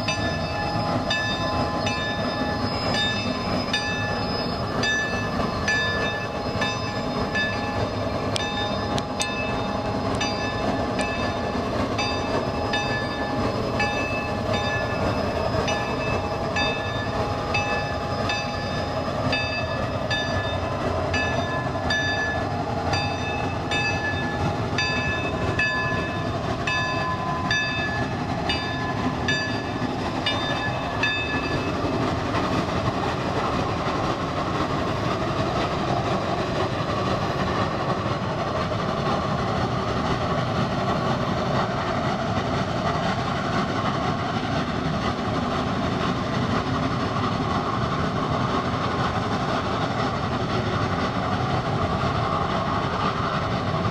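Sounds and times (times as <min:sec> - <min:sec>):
steam locomotive exhaust: 0:00.0 - 0:53.9.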